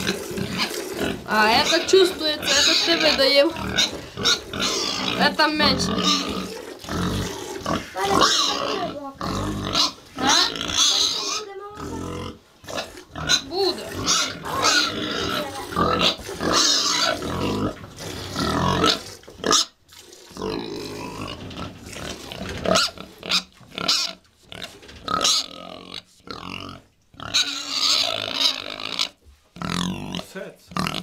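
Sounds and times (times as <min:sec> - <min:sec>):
pigs calling: 0:00.0 - 0:31.0.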